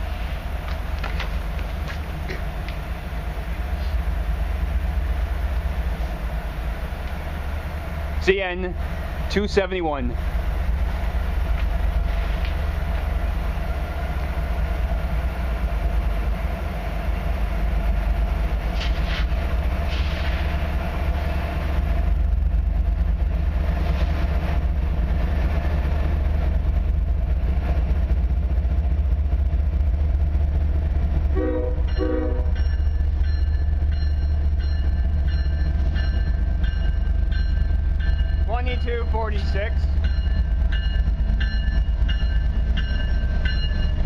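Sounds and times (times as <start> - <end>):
freight train locomotive rumble: 0.0 - 44.0.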